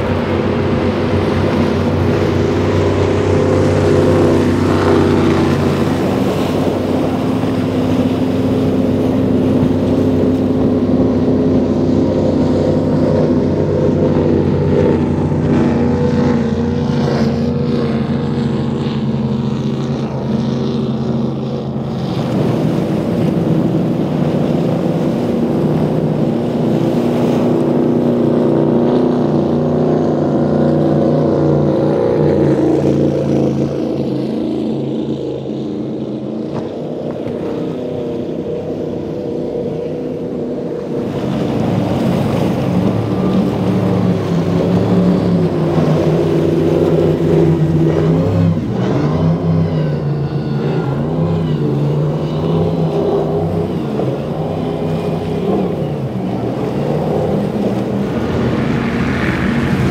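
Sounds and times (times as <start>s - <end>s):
powerboat engines running hard: 0.0s - 59.9s.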